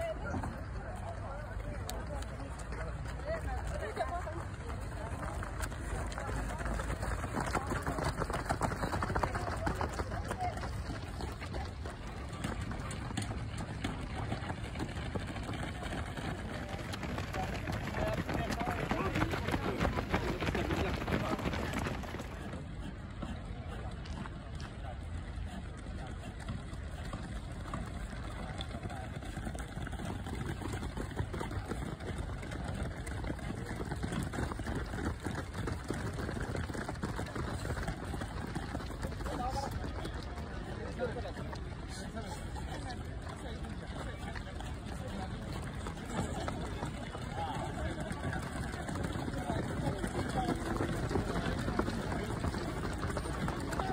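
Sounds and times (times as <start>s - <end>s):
runners' footfalls on track: 0.0s - 53.9s.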